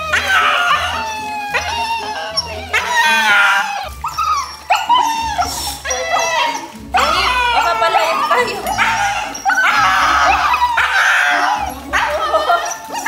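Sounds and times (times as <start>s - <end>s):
puppies crying and howling: 0.0s - 13.0s.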